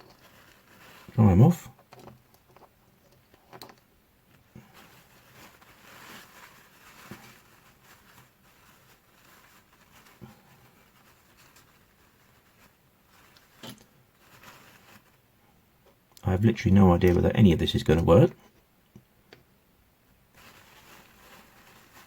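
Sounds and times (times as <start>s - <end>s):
soft rustle: 0.0s - 18.7s, 20.0s - 22.0s.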